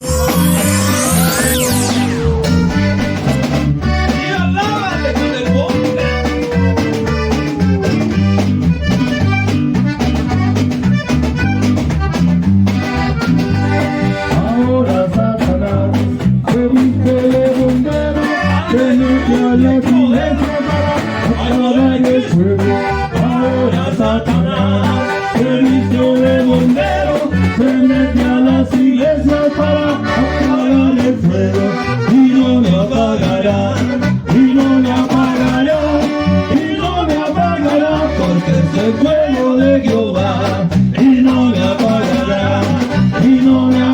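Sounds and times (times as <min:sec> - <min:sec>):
accordion melody: 0:00.0 - 0:16.2, 0:17.0 - 0:43.9
pulsing bass rhythm: 0:00.0 - 0:43.9.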